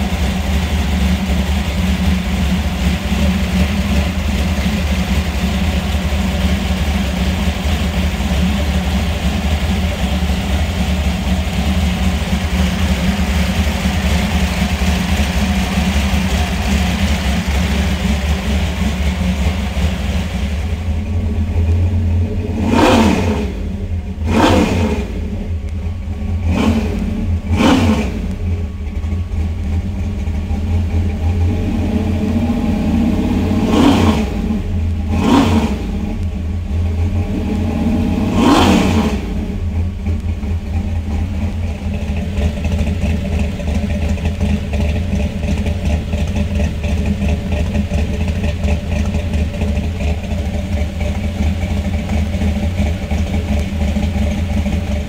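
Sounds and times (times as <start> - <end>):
engine idling with revving: 0.0 - 55.0.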